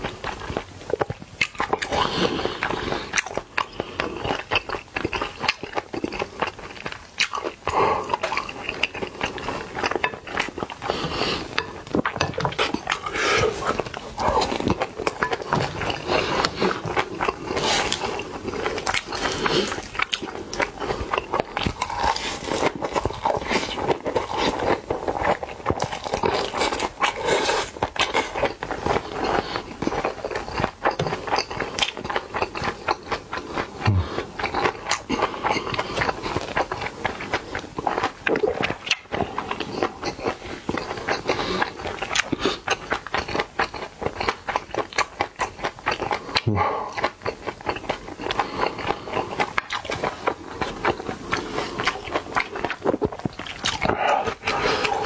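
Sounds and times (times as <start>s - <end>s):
chewing with wet mouth clicks: 0.0s - 55.0s.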